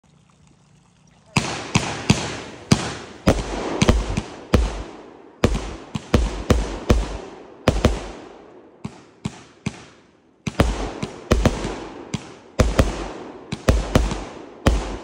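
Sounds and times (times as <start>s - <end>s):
firework bangs echoing: 1.4s - 15.0s.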